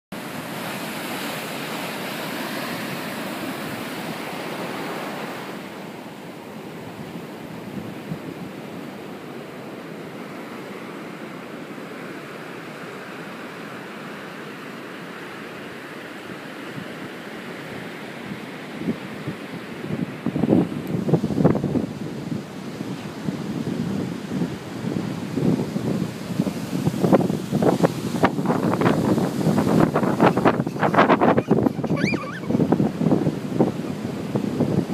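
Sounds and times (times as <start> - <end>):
ocean surf breaking: 0.2 - 34.9.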